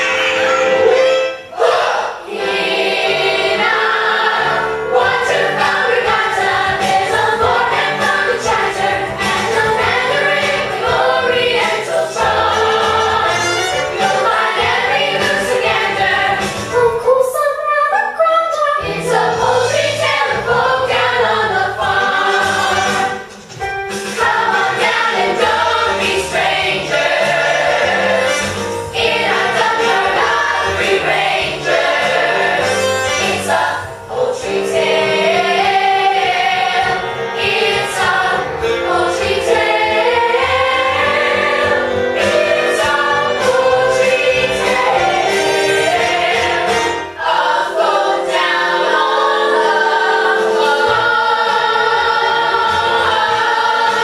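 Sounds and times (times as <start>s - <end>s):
chorus singing over instruments: 0.0s - 17.4s, 18.8s - 54.0s.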